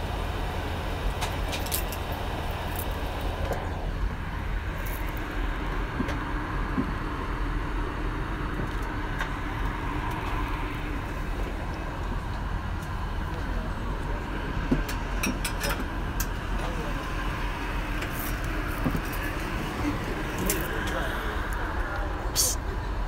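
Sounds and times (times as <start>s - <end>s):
airliner cabin noise: 0.0s - 23.0s.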